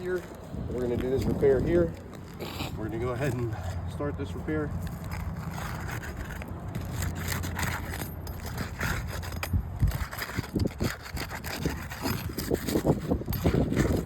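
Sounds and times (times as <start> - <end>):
roofing tool scraping shingles: 0.0 - 14.0.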